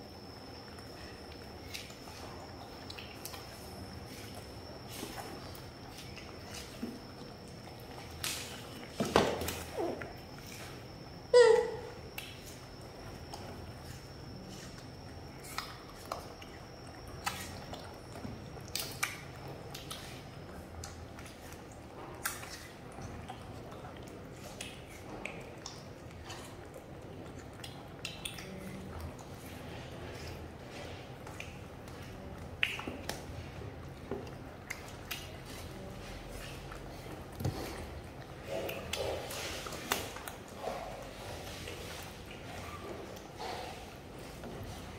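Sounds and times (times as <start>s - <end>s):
pets chewing wet food: 0.0s - 44.9s.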